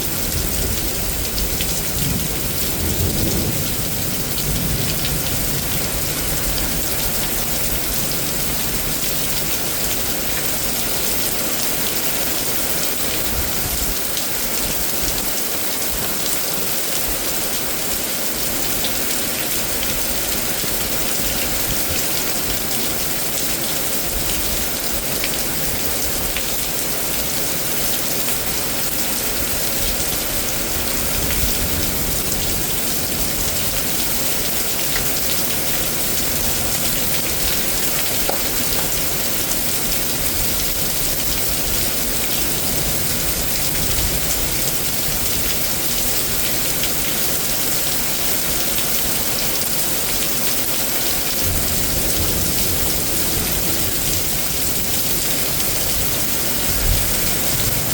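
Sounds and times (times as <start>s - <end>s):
heavy rain downpour: 0.0s - 57.9s.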